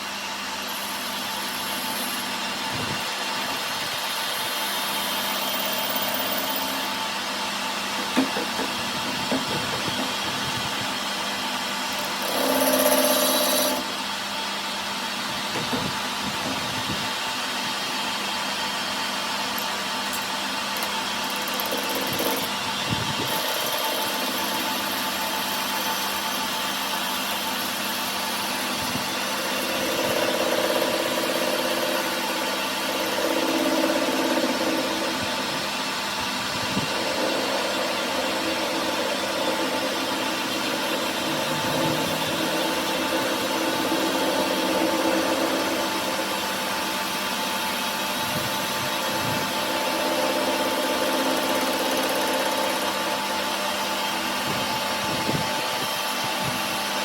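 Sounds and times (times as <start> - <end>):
workshop machine running: 0.0 - 57.0.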